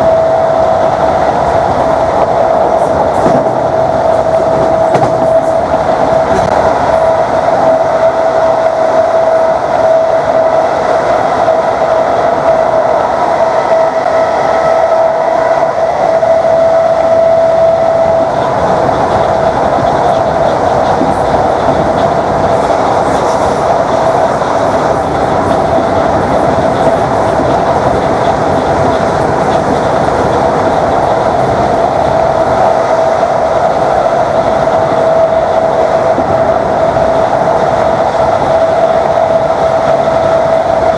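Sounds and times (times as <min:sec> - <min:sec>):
train rail and running noise: 0:00.0 - 0:40.9.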